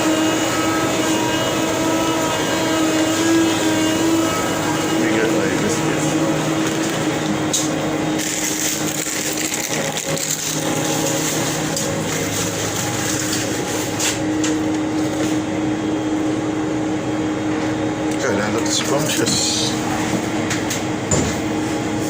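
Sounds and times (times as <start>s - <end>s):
machine hum and whir: 0.0s - 22.0s.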